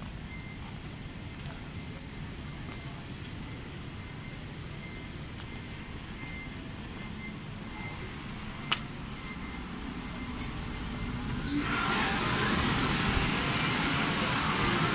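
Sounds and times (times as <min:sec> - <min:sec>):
quiet street ambience: 0:00.0 - 0:14.9.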